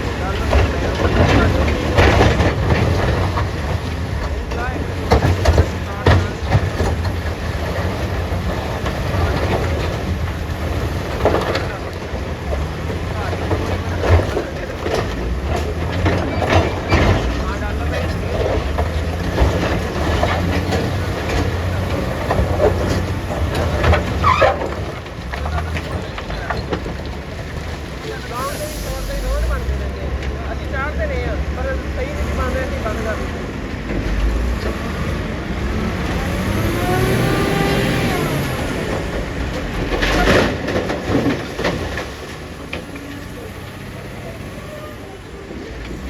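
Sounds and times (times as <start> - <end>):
rocks and steel clattering: 0.0 - 44.6
heavy diesel machinery rumbling: 0.0 - 46.0.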